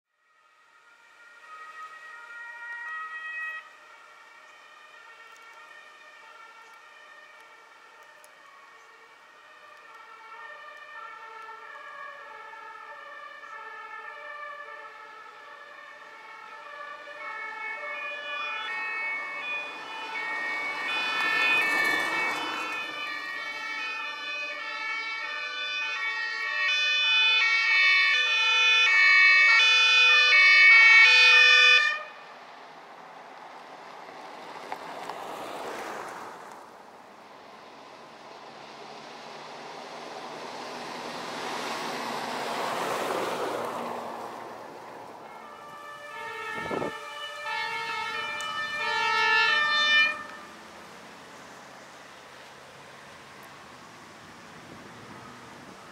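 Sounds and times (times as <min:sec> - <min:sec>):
two-tone emergency sirens: 0:00.1 - 0:36.6, 0:37.4 - 0:55.9
vehicle passing with tyre noise: 0:00.3 - 0:55.9.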